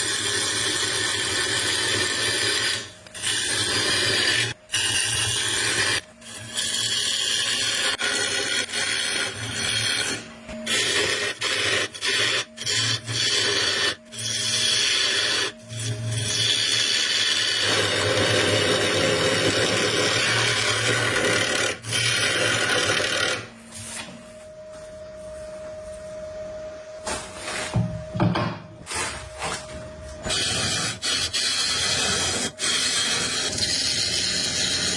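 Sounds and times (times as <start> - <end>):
tool rasping wood: 0.0 - 23.5, 30.2 - 34.9
steady hum: 0.0 - 34.9.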